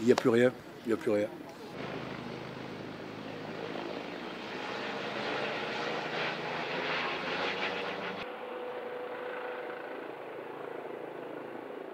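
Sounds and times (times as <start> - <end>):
helicopter turbine and rotor noise: 0.0 - 11.9.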